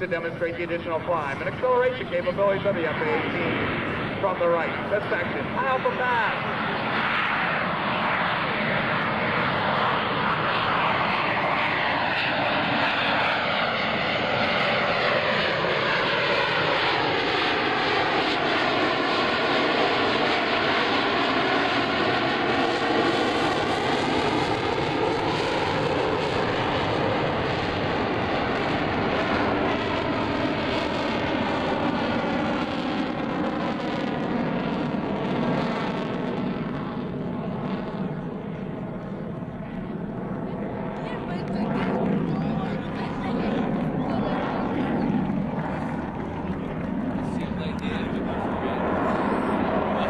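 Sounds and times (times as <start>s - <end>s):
jet aircraft flying by: 0.0s - 50.0s.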